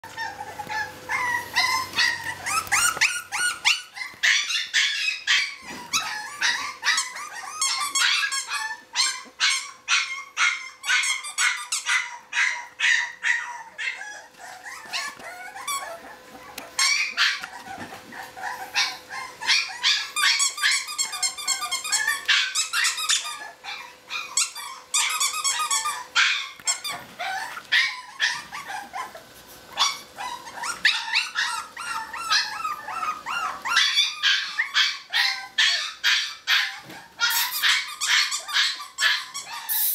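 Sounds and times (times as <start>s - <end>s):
puppies yipping and barking: 0.0s - 39.9s.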